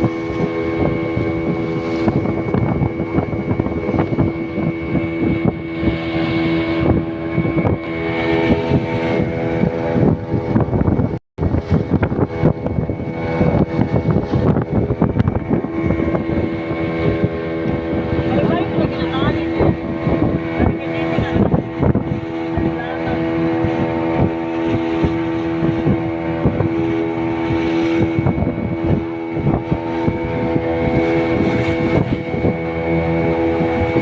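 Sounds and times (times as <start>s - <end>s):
outboard motor hum: 0.0s - 34.0s
wind noise: 0.0s - 34.0s.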